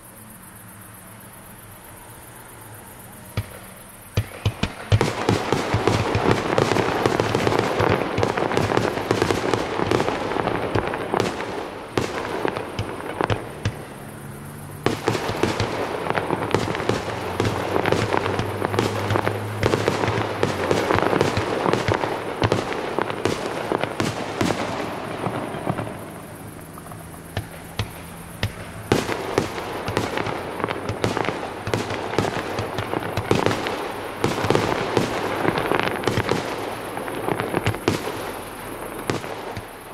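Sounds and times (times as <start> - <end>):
fireworks crackling and banging: 3.2 - 39.9.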